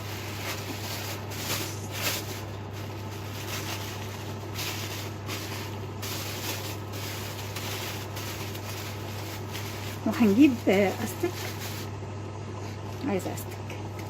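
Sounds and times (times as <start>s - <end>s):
plastic bag rustling: 0.0s - 11.9s
steady low hum: 0.0s - 14.0s.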